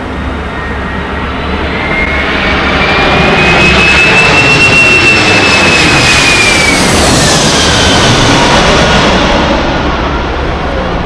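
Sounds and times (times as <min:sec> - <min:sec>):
high jet whine: 0:00.0 - 0:11.0
jet engines roaring: 0:00.0 - 0:11.0.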